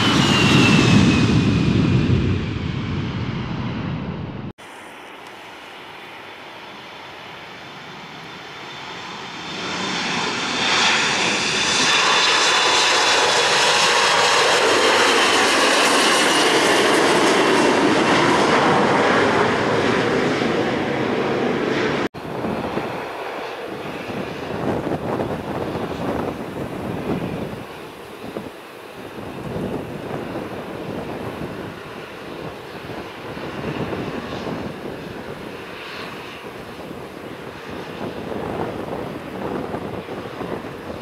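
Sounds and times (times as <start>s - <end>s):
jet airliner engines passing: 0.0s - 41.0s
jet engine whine: 0.0s - 41.0s.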